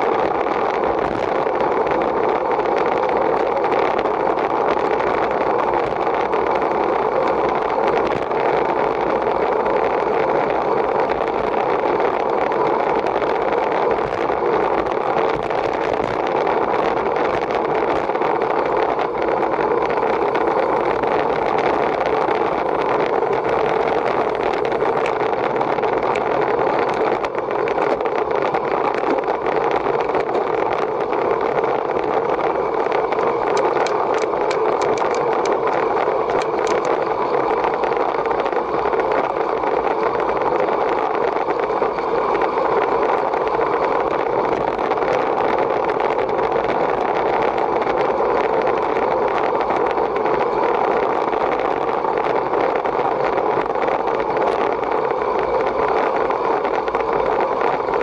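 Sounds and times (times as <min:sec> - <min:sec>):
road noise: 0:00.0 - 0:58.0
wind noise on microphone: 0:00.0 - 0:58.0.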